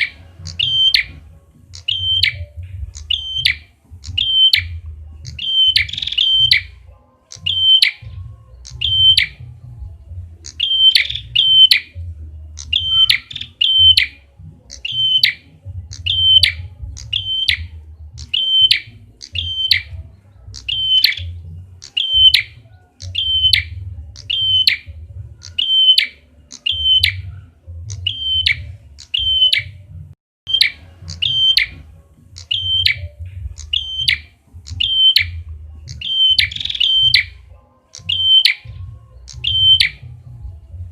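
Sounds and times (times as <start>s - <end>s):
songbird sharp chip notes: 0.0s - 9.7s, 10.4s - 29.9s, 30.5s - 40.3s.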